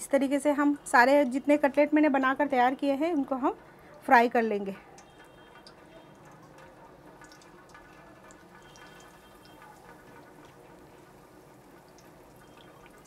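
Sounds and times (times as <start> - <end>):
food frying in hot oil: 0.1 - 13.0.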